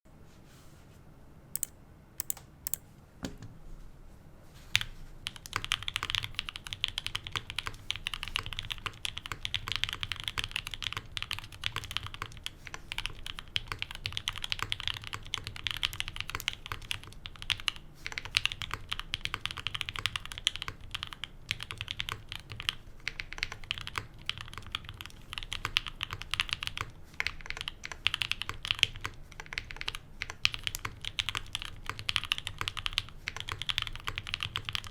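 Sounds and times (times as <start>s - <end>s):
faint fan hum: 0.1s - 34.9s
mechanical keyboard typing: 1.6s - 2.8s, 4.8s - 34.9s.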